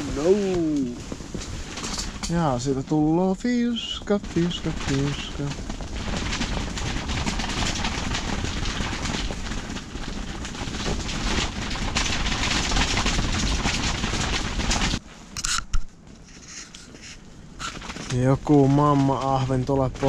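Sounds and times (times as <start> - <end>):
storm wind buffeting tent: 0.0 - 15.4, 16.9 - 20.0.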